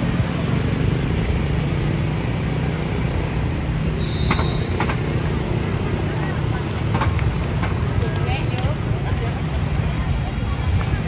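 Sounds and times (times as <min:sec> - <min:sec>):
motor scooters passing: 0:00.0 - 0:11.0
traffic rumble: 0:00.0 - 0:11.0.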